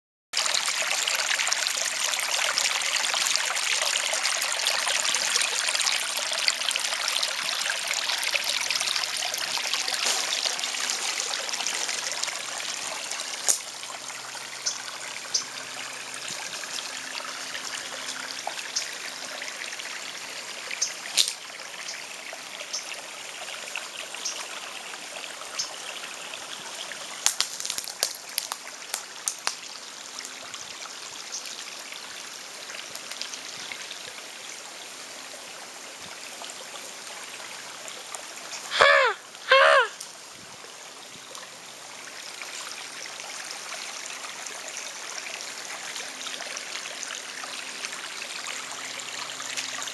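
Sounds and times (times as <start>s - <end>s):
stream trickling over gravel: 0.4s - 49.9s.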